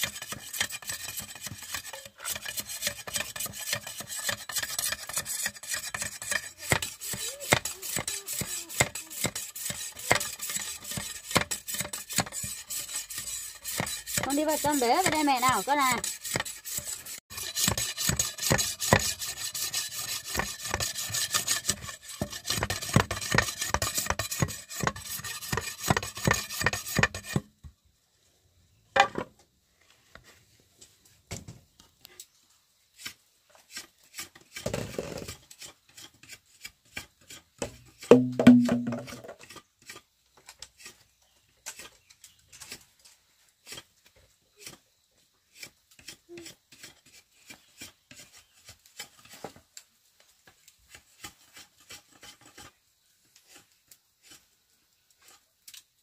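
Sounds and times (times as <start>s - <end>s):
knife scraping bamboo: 0.0s - 27.5s, 32.9s - 49.6s, 50.4s - 55.9s.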